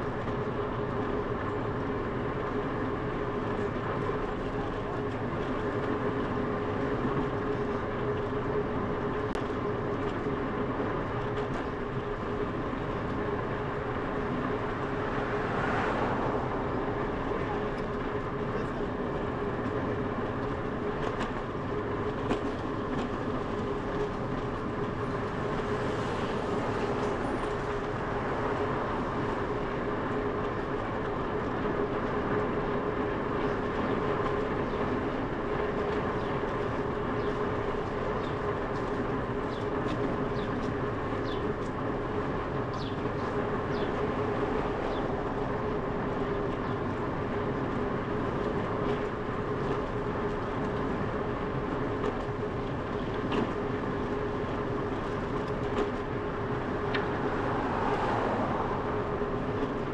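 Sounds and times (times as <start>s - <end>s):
bicycle rolling on asphalt: 0.0s - 59.9s.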